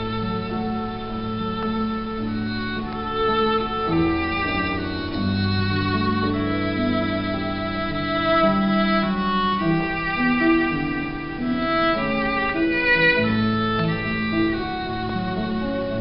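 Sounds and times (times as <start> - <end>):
keyboard accompaniment: 0.0 - 16.0
violin playing a hymn: 0.0 - 16.0.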